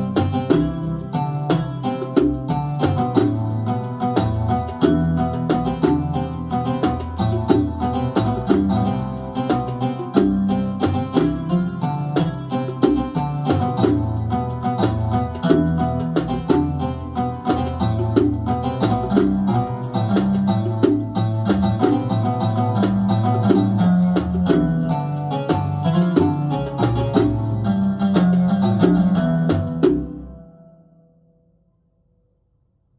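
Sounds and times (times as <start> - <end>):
steady drum rhythm: 0.0 - 30.3
keyboard melody with bass line: 0.0 - 30.6.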